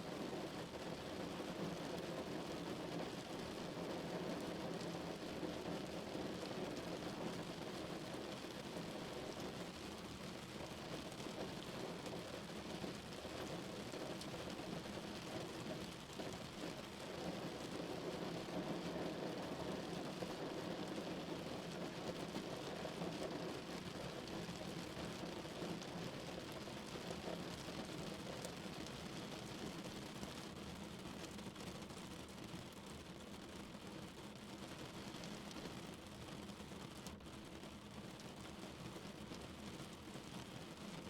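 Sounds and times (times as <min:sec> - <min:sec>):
rain on car roof: 0:00.1 - 0:41.0.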